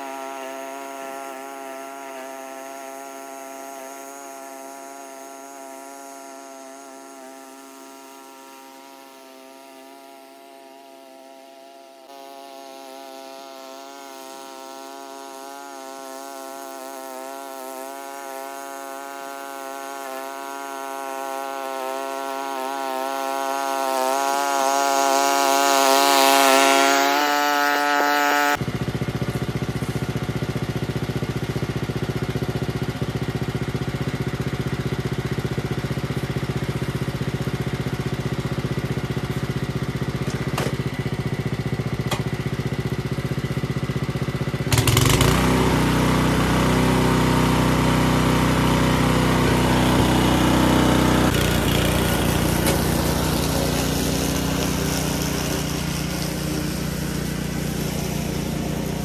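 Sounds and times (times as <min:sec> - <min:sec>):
lawn mower engine cutting grass: 0:00.0 - 0:59.0.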